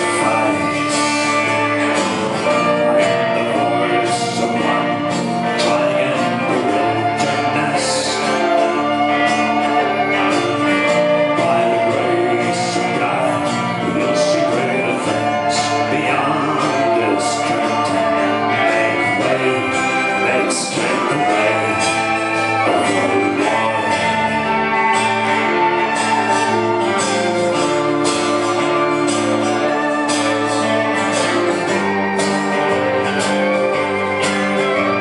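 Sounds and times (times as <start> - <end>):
live band playing folk song: 0.0 - 35.0.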